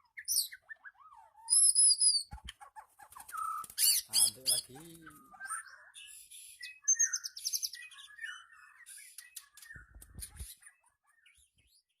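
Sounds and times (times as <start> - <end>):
bird chirping and trilling: 0.0 - 12.0.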